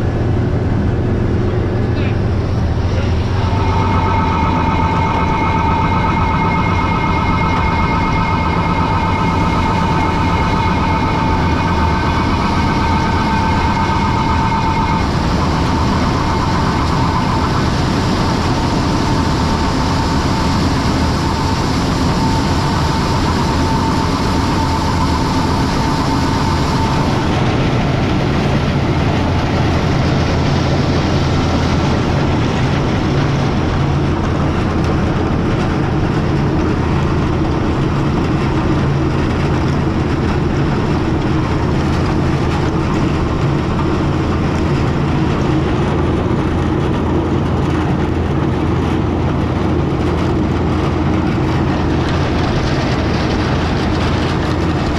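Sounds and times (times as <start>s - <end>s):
diesel farm machinery drone: 0.0s - 54.9s
steady high whine: 0.0s - 54.9s.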